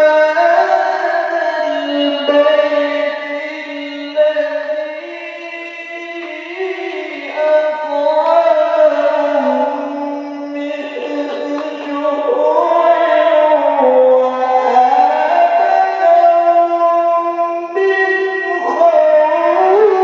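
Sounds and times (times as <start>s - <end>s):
man reciting melodically through microphone: 0.0s - 20.0s.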